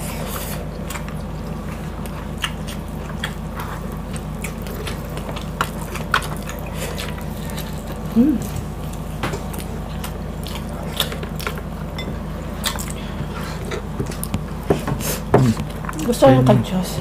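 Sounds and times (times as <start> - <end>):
people chewing with wet smacks: 0.0 - 16.8
steady low hum: 0.0 - 17.0.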